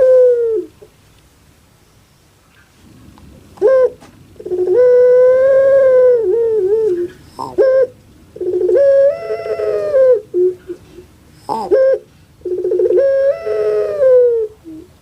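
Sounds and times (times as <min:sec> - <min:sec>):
dove cooing: 0:00.0 - 0:01.0, 0:03.2 - 0:15.0.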